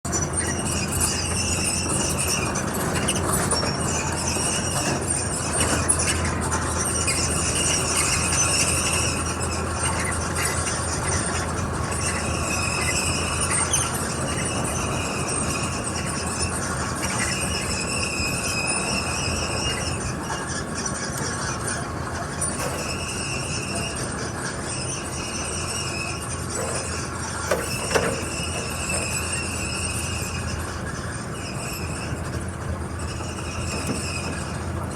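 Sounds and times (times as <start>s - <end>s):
excavator engine humming: 0.0s - 34.9s
high-pitched machine squeal: 0.1s - 34.9s.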